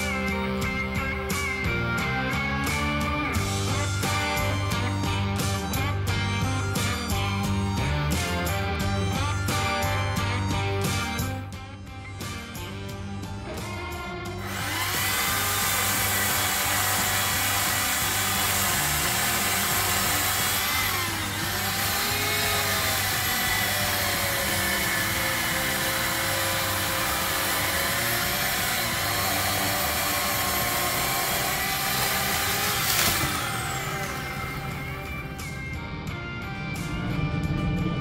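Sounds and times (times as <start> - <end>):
power saw cutting wood: 0.0 - 11.4, 13.5 - 35.8.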